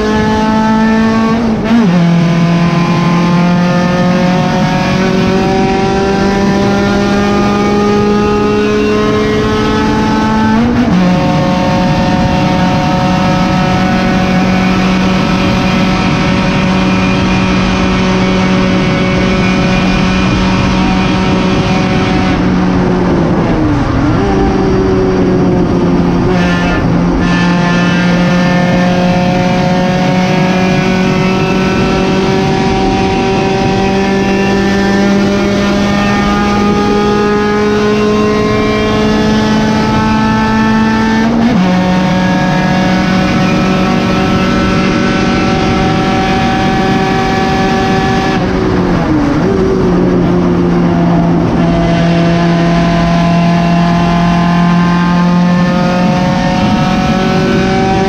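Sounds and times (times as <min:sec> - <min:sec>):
race car engine at full throttle: 0:00.0 - 0:58.0
road and wind noise: 0:00.0 - 0:58.0.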